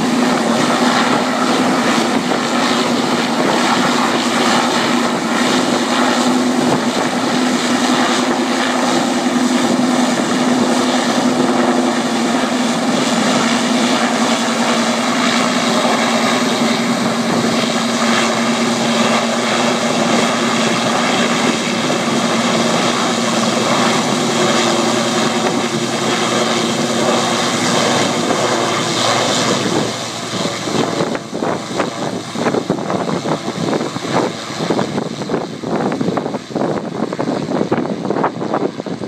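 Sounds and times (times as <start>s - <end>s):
helicopter rotor noise: 0.0s - 39.0s
steady low hum: 0.0s - 39.0s.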